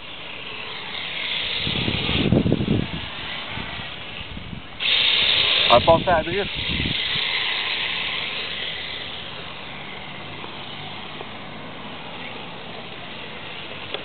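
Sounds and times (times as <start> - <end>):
toy car motor and tyre hiss: 0.0 - 14.0.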